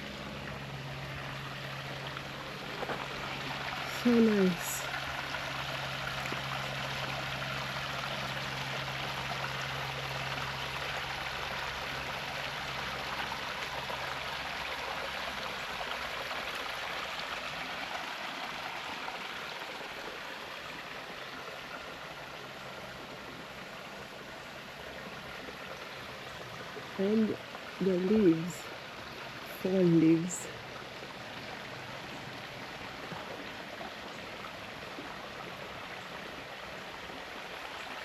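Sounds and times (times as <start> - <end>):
low steady hum: 0.0 - 17.6, 18.3 - 38.0
spring water trickling: 0.0 - 38.0.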